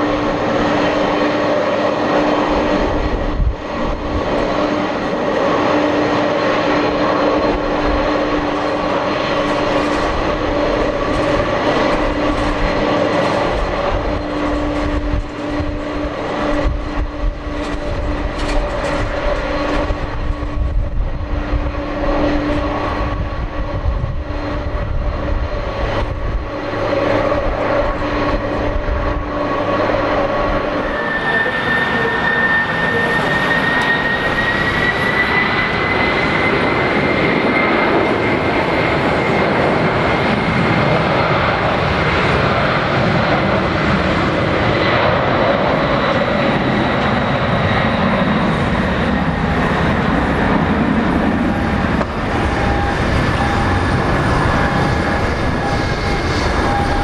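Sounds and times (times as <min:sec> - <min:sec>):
jet engine whine spooling up: 0:00.0 - 0:57.0
jet engines humming: 0:00.0 - 0:57.0.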